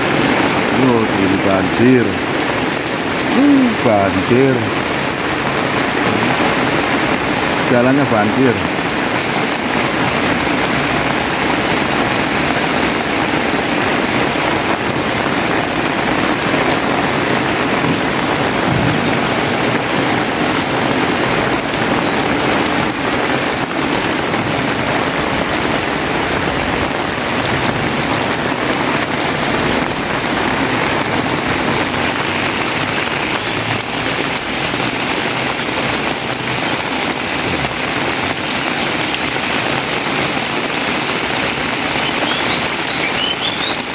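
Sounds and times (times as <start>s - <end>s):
heavy rain pouring: 0.0s - 43.9s
running water: 0.0s - 43.9s.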